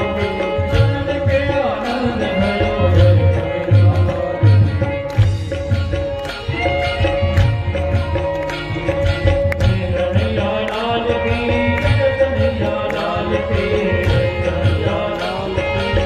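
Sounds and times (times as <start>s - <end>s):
devotional melody over loudspeakers: 0.0s - 16.0s.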